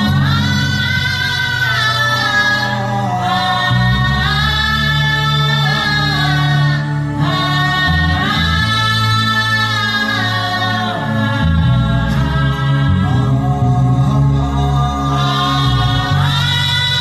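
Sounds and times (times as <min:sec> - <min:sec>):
man humming a slow melody: 0:00.0 - 0:17.0
sustained low accompaniment: 0:00.0 - 0:17.0.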